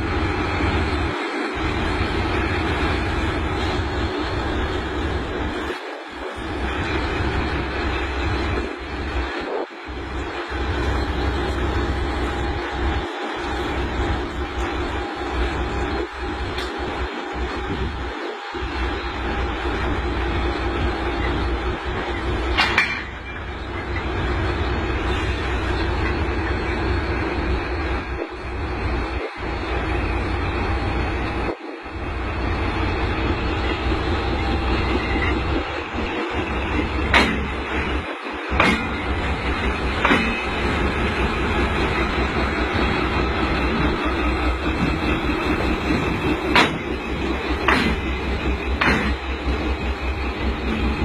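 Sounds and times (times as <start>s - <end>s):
locomotive rumble and hum: 0.0s - 51.0s.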